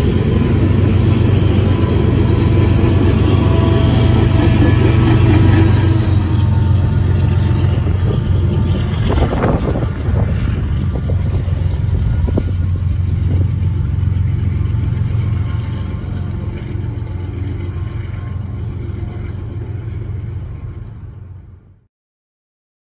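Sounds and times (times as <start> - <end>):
wheels clacking over rail joints: 0.0 - 20.6
diesel locomotive engine hum: 0.0 - 21.9.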